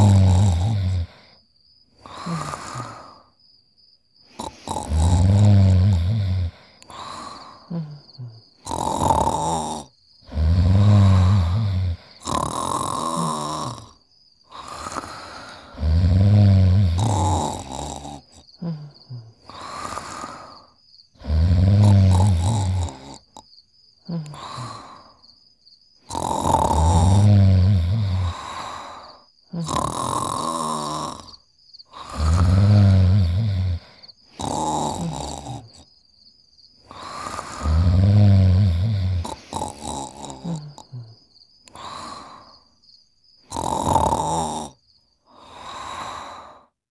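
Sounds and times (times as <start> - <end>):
cartoon snoring: 0.0 - 1.4, 2.0 - 3.3, 4.3 - 25.2, 26.0 - 35.9, 36.8 - 42.7, 43.4 - 46.8.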